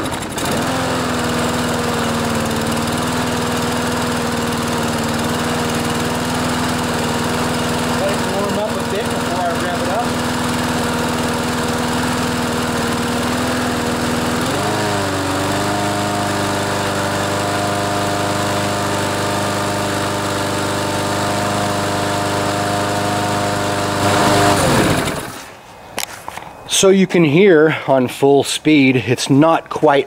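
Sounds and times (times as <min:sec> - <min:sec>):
lawn mower engine running: 0:00.0 - 0:26.2.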